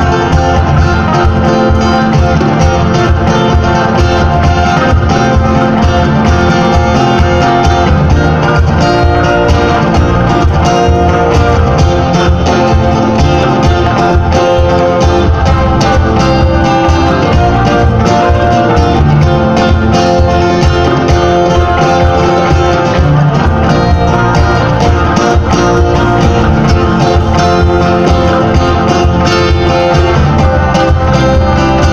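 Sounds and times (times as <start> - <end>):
bass guitar: 0.0 - 31.9
djembe beat: 0.0 - 31.9
guitar: 0.0 - 31.9
plucked sape: 0.0 - 31.9.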